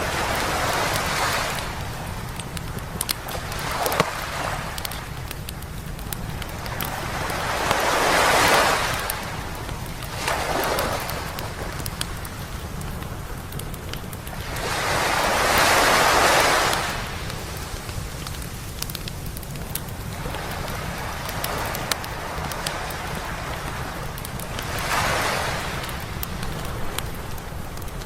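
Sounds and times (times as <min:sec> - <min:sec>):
campfire crackling: 0:00.0 - 0:28.0
waves washing on a beach: 0:00.0 - 0:28.0.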